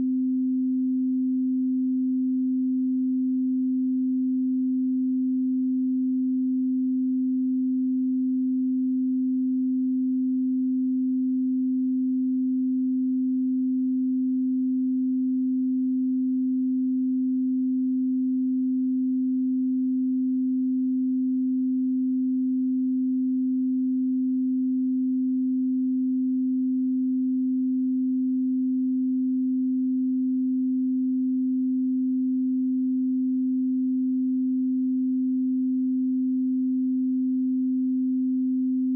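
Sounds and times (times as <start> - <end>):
sine-wave test tone: 0.0 - 38.9.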